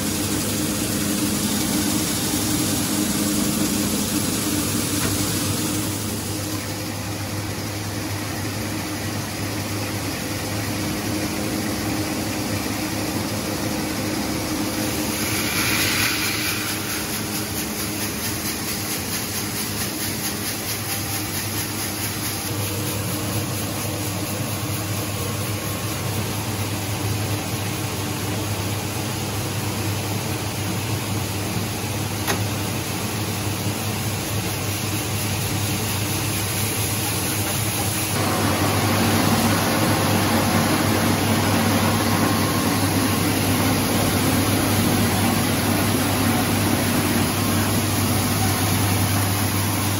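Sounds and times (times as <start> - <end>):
rice husking machine humming: 0.0 - 49.9.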